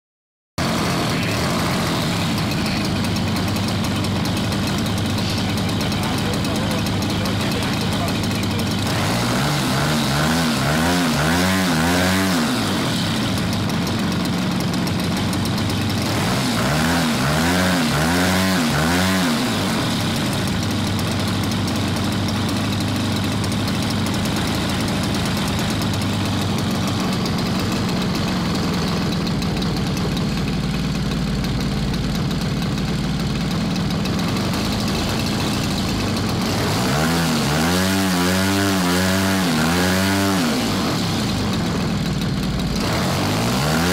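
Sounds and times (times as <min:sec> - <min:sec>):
model aircraft engine running: 0:00.6 - 0:43.9.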